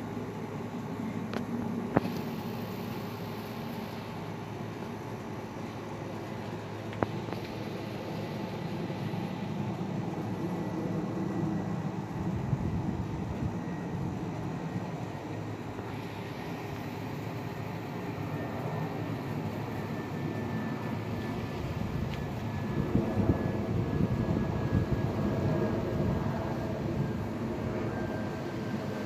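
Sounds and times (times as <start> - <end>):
distant jet engine rumble: 0.0 - 29.0
faint thin whine: 0.0 - 29.0.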